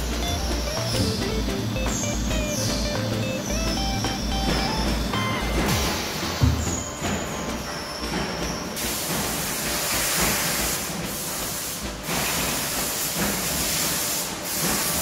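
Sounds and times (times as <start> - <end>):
welding machine hiss: 0.0 - 15.0.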